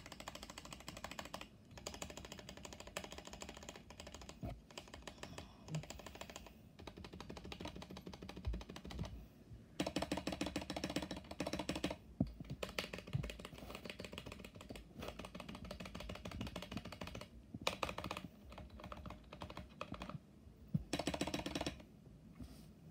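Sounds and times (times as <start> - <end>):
mechanical keyboard typing: 0.0 - 9.2, 9.8 - 20.2, 20.8 - 21.9.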